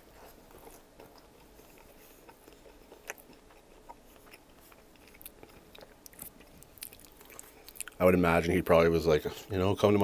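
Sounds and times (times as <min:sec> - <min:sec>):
chewing sandwich: 0:00.0 - 0:08.5.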